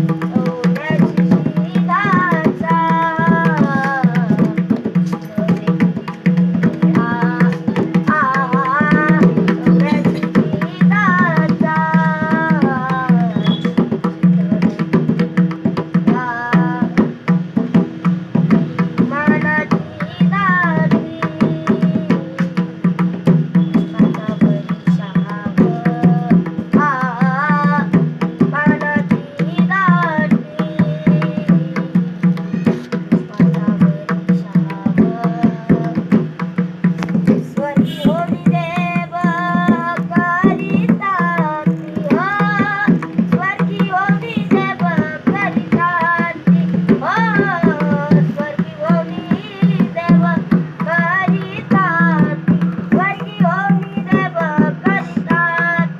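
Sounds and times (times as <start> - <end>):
tabla strokes: 0.0 - 55.9.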